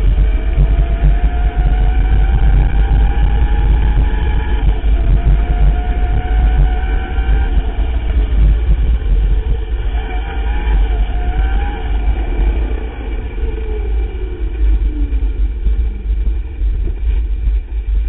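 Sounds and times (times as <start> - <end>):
electric bike motor whining: 0.0 - 16.7
wind rumble on microphone: 0.0 - 18.0.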